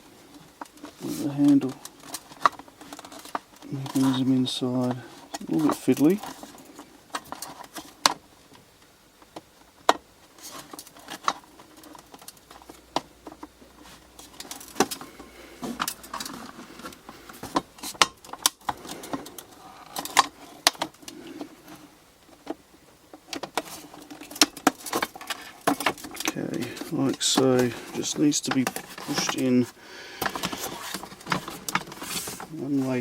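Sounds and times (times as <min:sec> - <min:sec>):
plastic parts clicking and knocking: 0:00.3 - 0:33.0.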